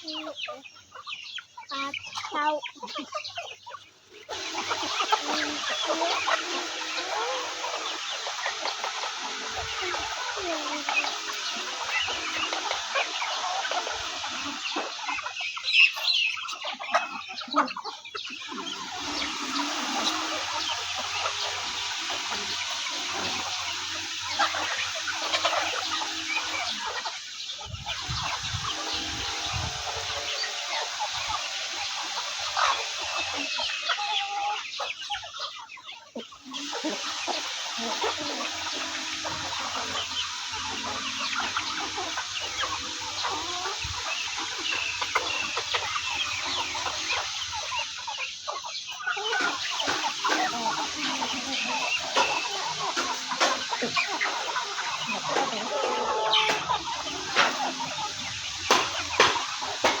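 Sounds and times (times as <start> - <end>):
chickens clucking: 0.0 - 60.0.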